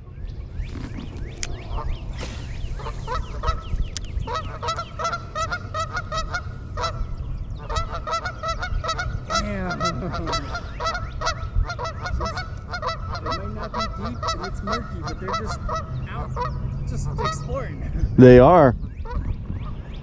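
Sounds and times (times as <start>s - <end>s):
low rumble: 0.0s - 20.0s
geese honking: 1.6s - 17.7s.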